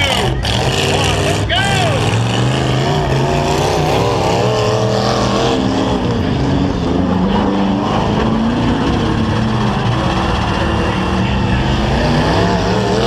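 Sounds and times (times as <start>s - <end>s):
low engine drone: 0.0s - 13.0s
truck engines revving: 0.0s - 13.0s.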